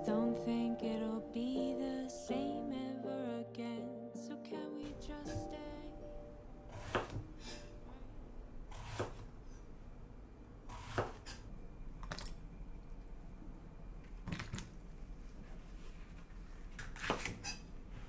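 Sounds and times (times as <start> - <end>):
faint low hum: 0.0 - 16.9.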